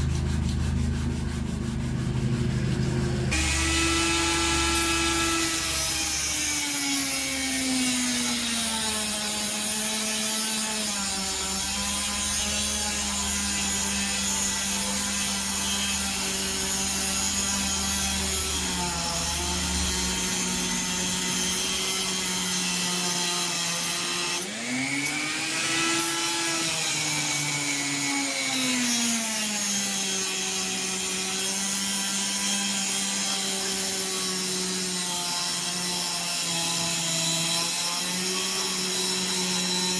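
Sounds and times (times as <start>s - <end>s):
power tool motor whining: 1.6s - 39.9s.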